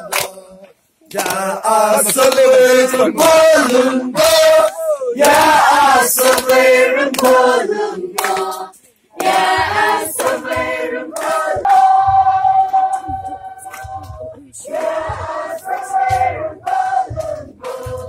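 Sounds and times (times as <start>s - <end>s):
group of voices singing: 0.0s - 18.0s.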